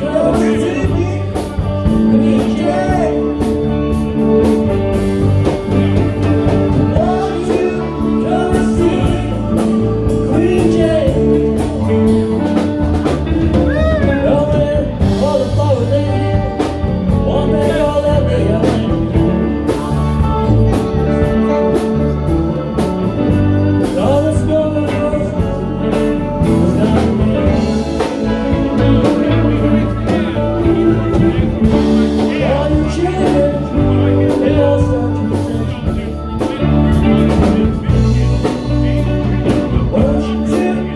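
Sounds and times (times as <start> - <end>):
live ragtime band playing: 0.0 - 40.9.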